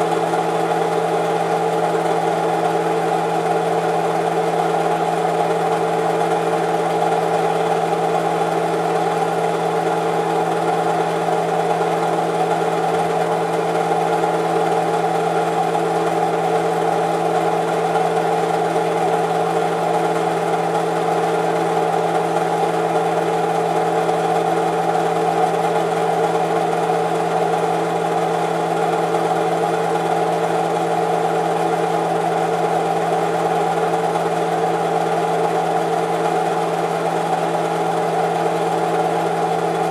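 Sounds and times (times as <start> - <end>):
film projector humming and whirring: 0.0 - 39.9.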